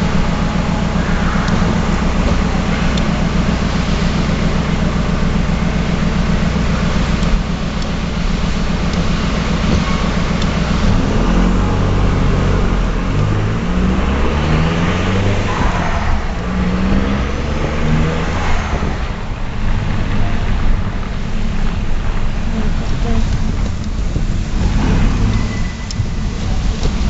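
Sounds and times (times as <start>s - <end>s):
loud diesel engine accelerating: 0.0s - 27.0s
turbo whine: 0.0s - 27.0s.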